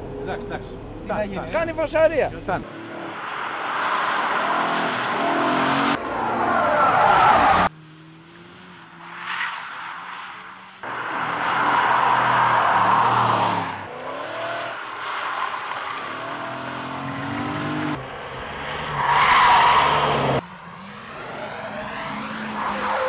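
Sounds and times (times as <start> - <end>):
car engines: 0.0 - 23.0.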